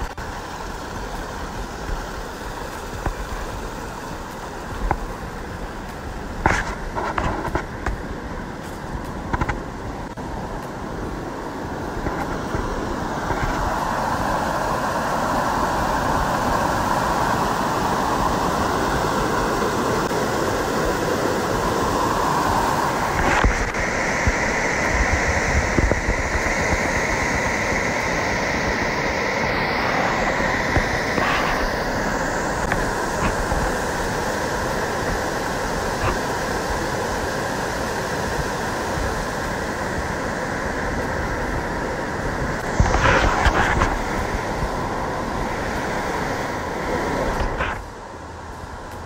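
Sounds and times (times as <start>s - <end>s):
water cascading over rock: 0.0s - 48.0s.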